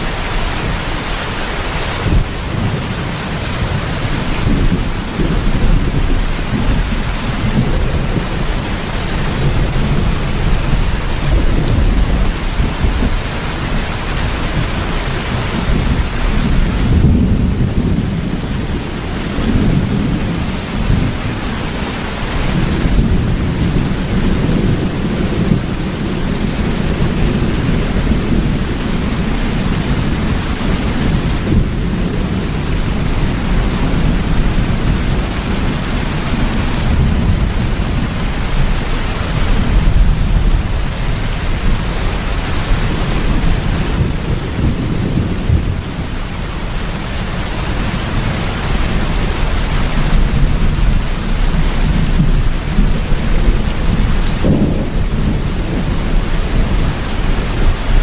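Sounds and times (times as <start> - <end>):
heavy rain: 0.0 - 58.0
low rumble of thunder: 0.0 - 58.0.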